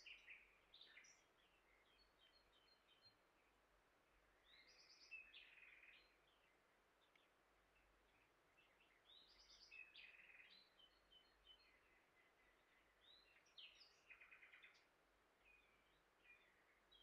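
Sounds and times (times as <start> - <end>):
songbird chirping and trilling: 0.0 - 17.0.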